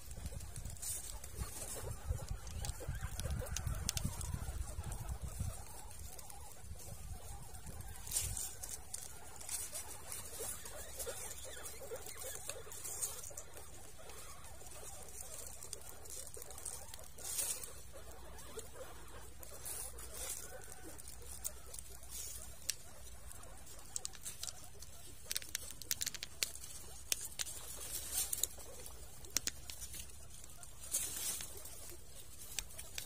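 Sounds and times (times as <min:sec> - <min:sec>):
guinea pigs nibbling and rustling: 0:00.0 - 0:33.0.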